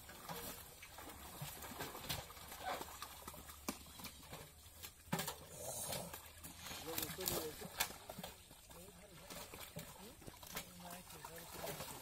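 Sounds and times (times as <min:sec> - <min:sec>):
fish flapping and splashing in net: 0:00.0 - 0:12.0.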